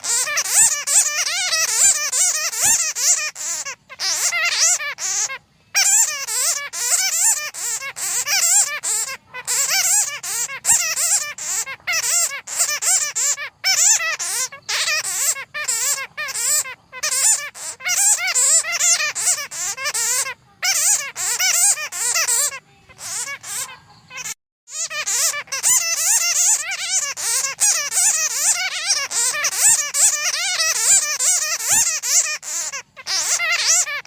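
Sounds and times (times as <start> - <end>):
bats squeaking and chittering: 0.0 - 34.0.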